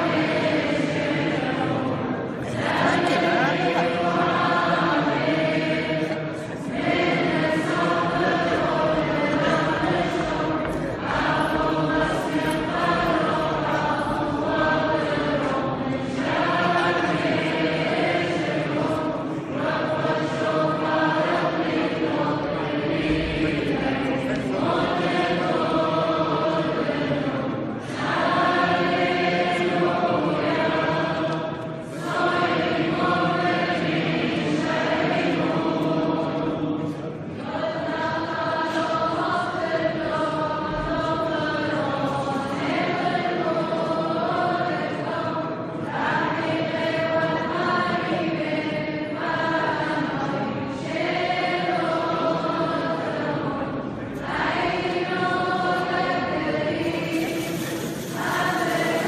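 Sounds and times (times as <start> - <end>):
church choir chanting a hymn: 0.0 - 59.0.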